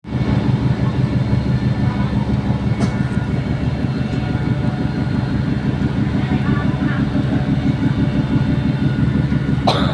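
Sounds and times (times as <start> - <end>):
ferry engines droning: 0.0 - 9.9.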